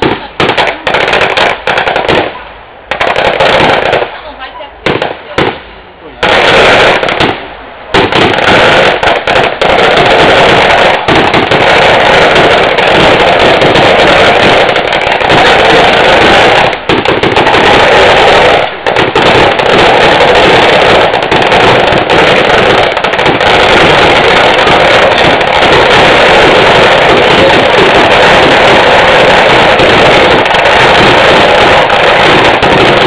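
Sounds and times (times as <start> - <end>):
firecrackers crackling: 0.0 - 33.0.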